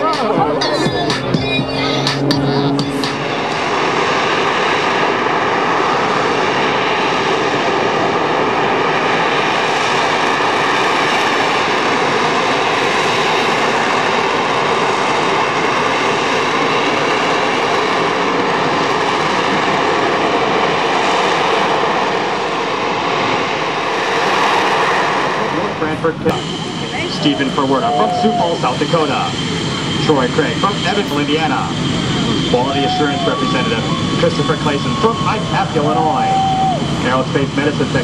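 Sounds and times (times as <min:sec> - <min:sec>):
jet engine hovering: 0:00.0 - 0:38.0.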